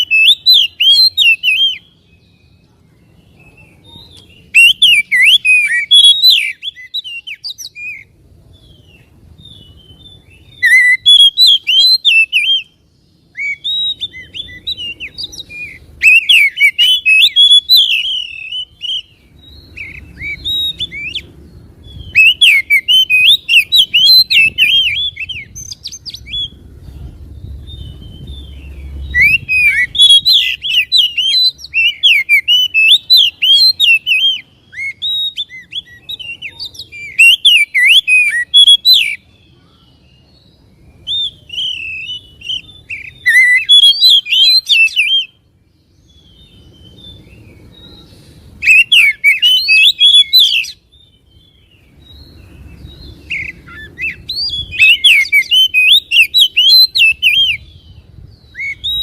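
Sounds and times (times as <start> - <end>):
bird singing whistled notes: 0.0 - 59.0.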